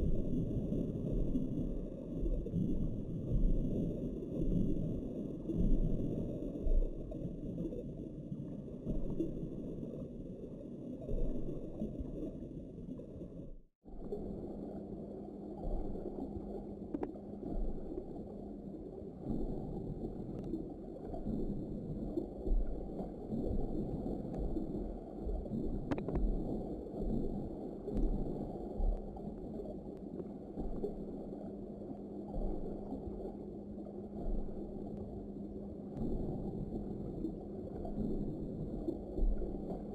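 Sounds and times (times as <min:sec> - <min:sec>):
faint steady hum: 0:00.0 - 0:39.9
muffled underwater rumble: 0:00.0 - 0:39.9.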